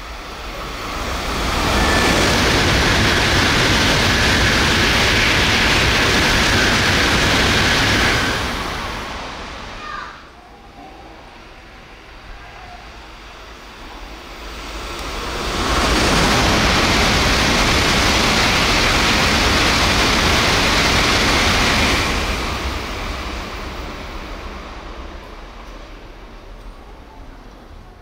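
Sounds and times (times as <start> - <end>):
high-speed train rushing past: 0.0 - 28.0.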